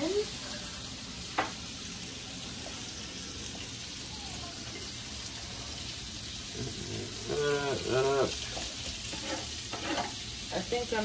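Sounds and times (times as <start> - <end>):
sausages sizzling in a pan: 0.0 - 11.0.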